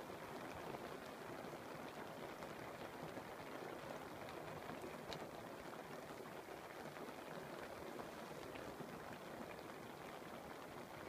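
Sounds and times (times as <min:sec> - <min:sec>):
rain on a canvas roof: 0:00.0 - 0:11.0.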